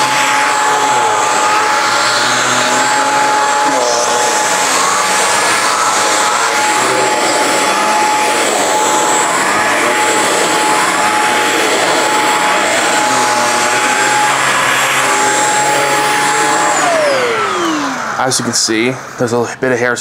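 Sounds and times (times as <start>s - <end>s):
vacuum suction rushing: 0.0s - 19.3s
vacuum cleaner motor whine: 0.0s - 19.4s.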